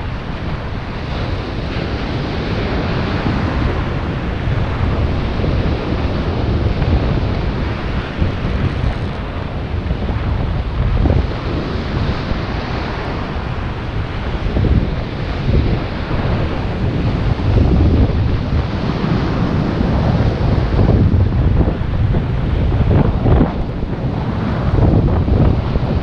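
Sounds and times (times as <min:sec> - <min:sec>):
ocean surf breaking: 0:00.0 - 0:26.0
wind buffeting the microphone: 0:00.0 - 0:26.0.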